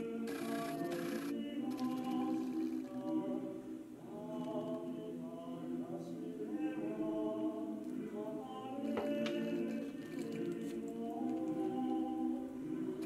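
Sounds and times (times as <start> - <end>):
slow song with held notes: 0.0 - 13.0.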